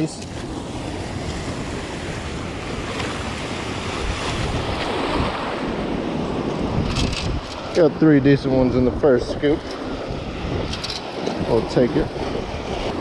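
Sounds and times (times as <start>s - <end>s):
small waves washing over sand: 0.0s - 13.0s
wind buffeting microphone: 0.0s - 13.0s.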